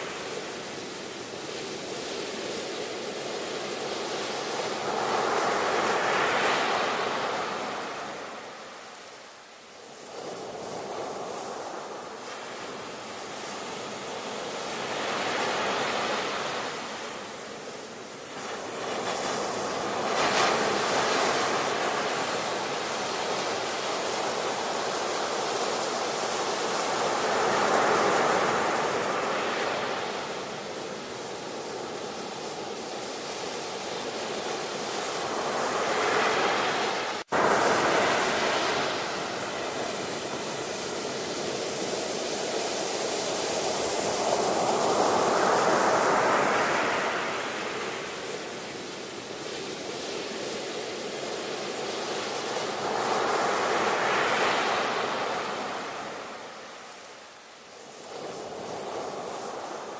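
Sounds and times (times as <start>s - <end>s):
waves breaking and washing in: 0.0s - 59.9s.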